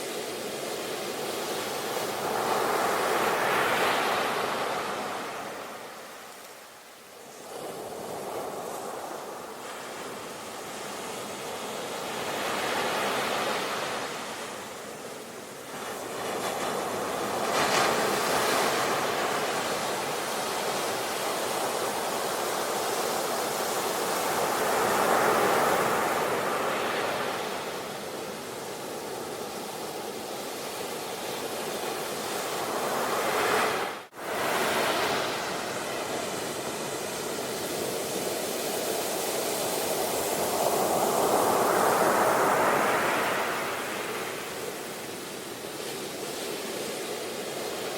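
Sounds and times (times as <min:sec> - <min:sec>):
sea waves breaking on shore: 0:00.0 - 0:47.9.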